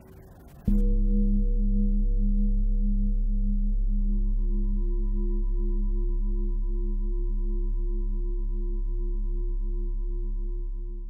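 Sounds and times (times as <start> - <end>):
deep low hum: 0.0 - 11.0.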